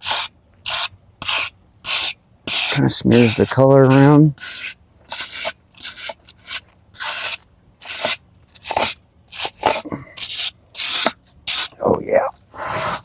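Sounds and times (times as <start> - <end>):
wire brush scrubbing wood: 0.0 - 11.7.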